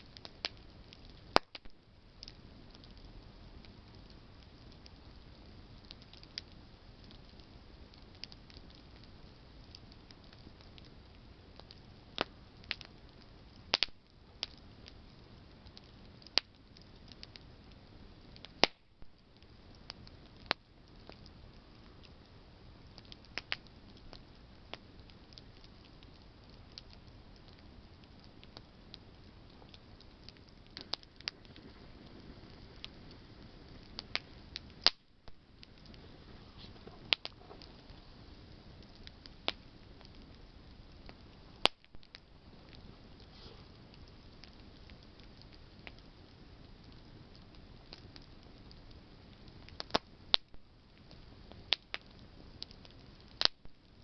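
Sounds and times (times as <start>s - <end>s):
burning wood popping and snapping: 0.0s - 54.0s
campfire hissing: 0.0s - 54.0s.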